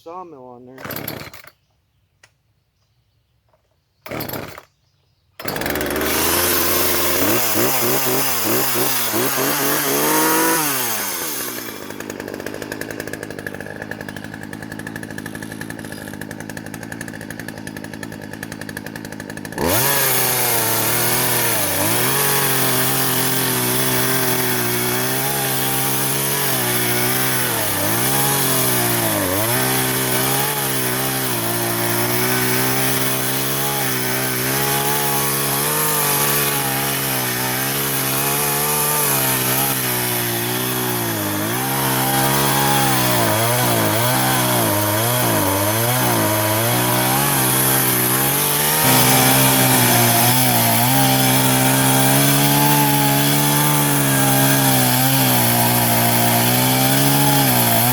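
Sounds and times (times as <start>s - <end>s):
chainsaw cutting log: 0.0s - 1.7s, 4.0s - 4.8s, 5.4s - 57.9s.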